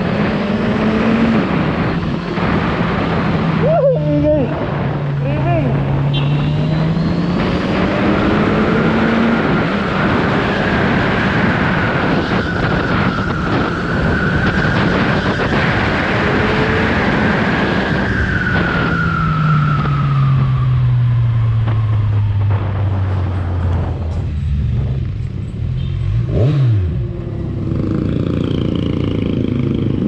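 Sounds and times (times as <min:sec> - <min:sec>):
wind rush: 0:00.0 - 0:25.7.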